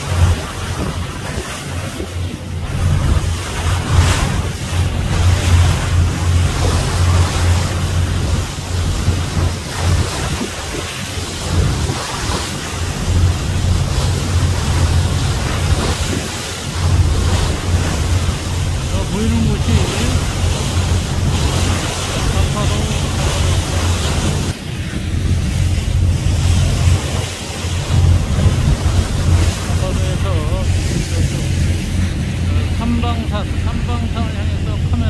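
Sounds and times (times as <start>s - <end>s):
sea water rushing along hull: 0.0s - 35.0s
ship engine drone: 0.0s - 35.0s
wind buffeting microphone: 0.0s - 35.0s.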